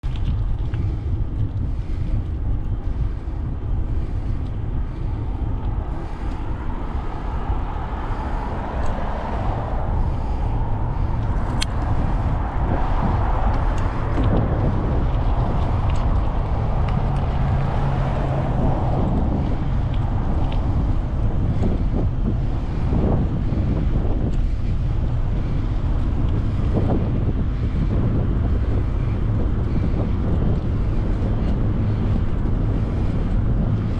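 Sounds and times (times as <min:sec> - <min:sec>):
road noise: 0:00.0 - 0:33.9
traffic noise: 0:00.0 - 0:33.9
wind rumbling on microphone: 0:00.0 - 0:33.9.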